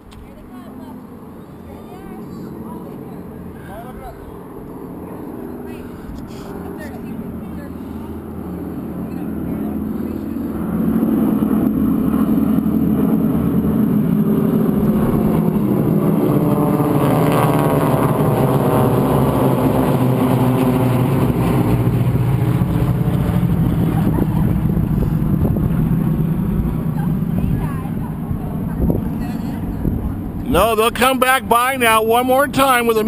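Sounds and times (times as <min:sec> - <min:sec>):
plane engines droning overhead: 0:00.0 - 0:33.0.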